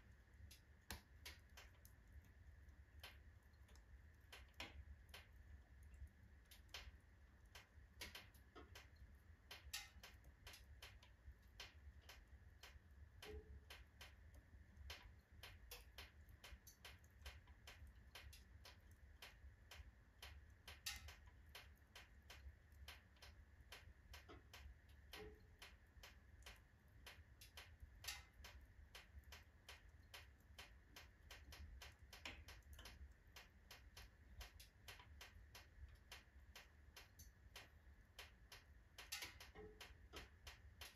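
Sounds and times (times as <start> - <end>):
wood fire crackling in stove: 0.0 - 40.9.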